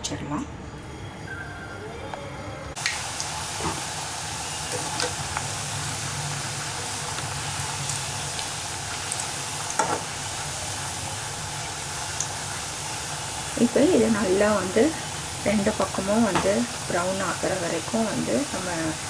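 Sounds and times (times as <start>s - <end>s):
crackers sizzling in hot oil: 2.7s - 19.0s.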